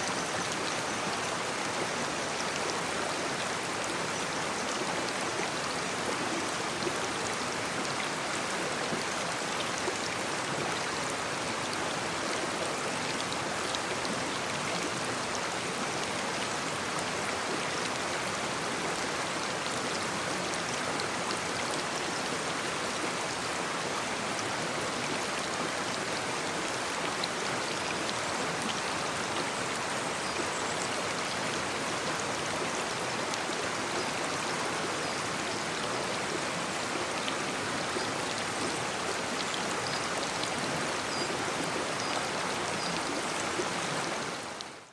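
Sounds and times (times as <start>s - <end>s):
brook babbling over stones: 0.0s - 44.9s.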